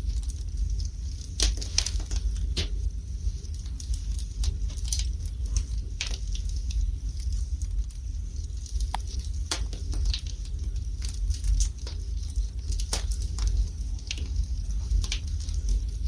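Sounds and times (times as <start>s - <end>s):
burning logs crackling and popping: 0.0s - 16.0s
low fire rumble: 0.0s - 16.0s.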